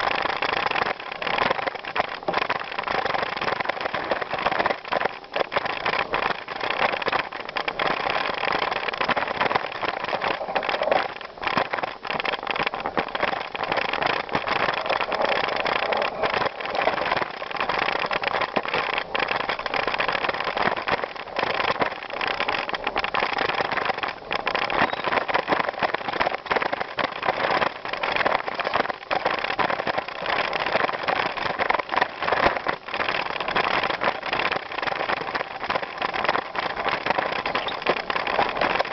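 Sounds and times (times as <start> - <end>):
bicycle tyres crunching on gravel: 0.0 - 38.9.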